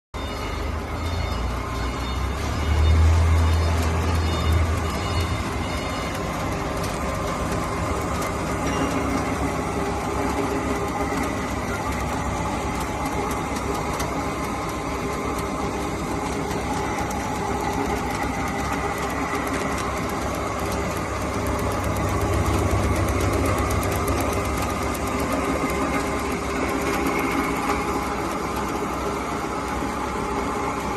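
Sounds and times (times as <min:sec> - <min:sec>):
crusher machinery drone: 0:00.2 - 0:30.9.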